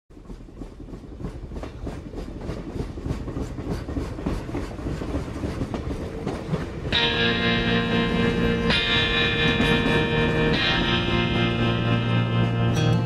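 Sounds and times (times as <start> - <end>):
train wheels clickety-clack: 0.1 - 13.0.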